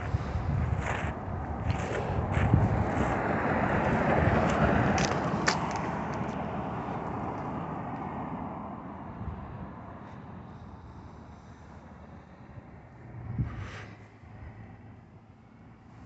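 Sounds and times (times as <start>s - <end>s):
vehicle driving past: 0.0s - 16.0s.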